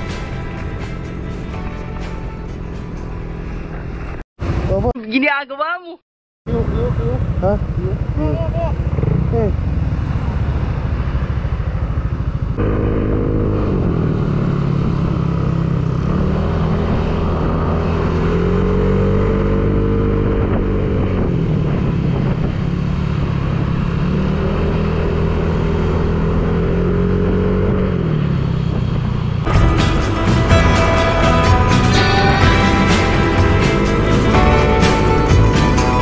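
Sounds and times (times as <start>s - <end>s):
motorcycle engine running: 0.0s - 4.2s, 6.5s - 36.0s.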